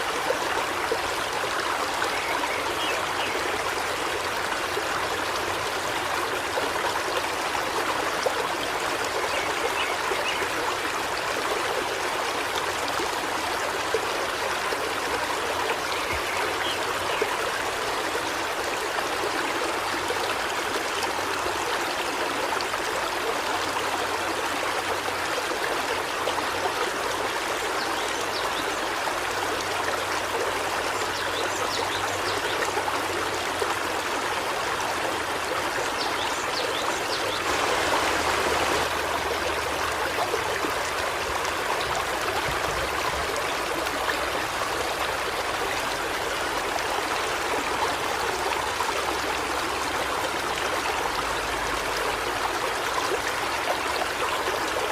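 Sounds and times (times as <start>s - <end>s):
stream flowing over rocks: 0.0s - 54.9s.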